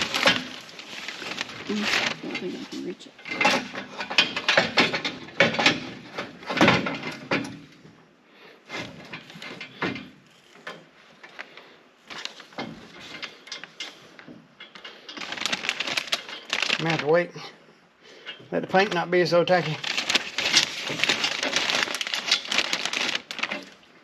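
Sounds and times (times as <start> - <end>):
metal parts and tools clattering: 0.0 - 7.8, 8.7 - 11.4, 12.1 - 17.3, 18.2 - 23.8.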